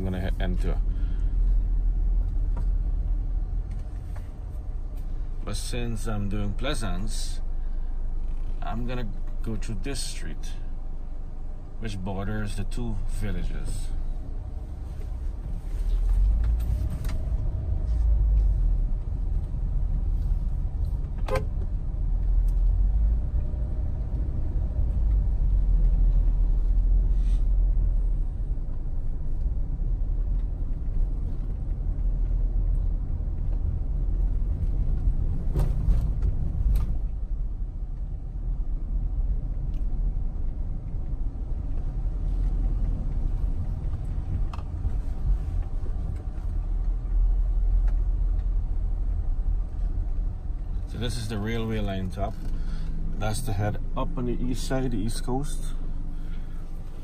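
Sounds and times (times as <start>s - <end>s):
car rumbling on paved road: 0.0s - 57.0s.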